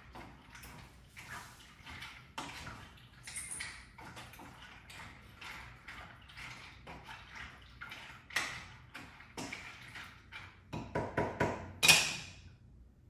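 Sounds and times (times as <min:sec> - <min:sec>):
water splashing and pouring: 0:00.0 - 0:10.7.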